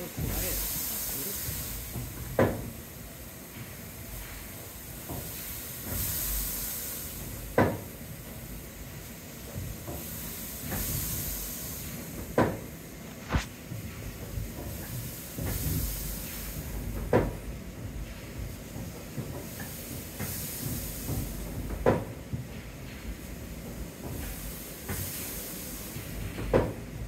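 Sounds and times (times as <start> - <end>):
steam engine low rumble: 0.0 - 27.0
steam hissing in puffs: 0.0 - 27.0.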